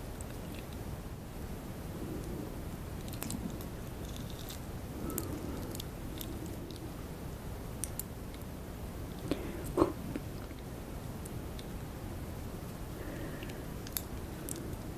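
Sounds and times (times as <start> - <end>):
low background hiss: 0.0 - 14.9.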